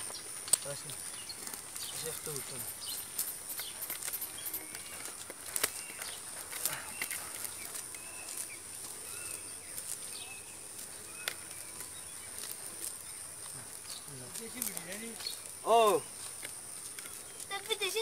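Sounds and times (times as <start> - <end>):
bird chirps: 0.0 - 18.0
high insect drone: 0.0 - 18.0
net ticks and rustles: 0.0 - 18.0.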